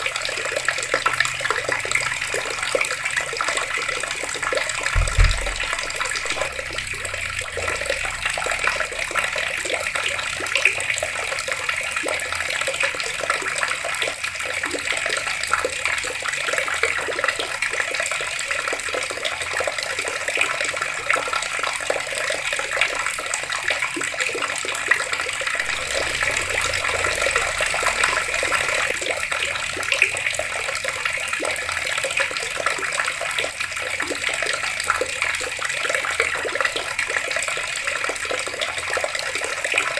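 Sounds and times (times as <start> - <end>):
water running from taps: 0.0 - 39.9.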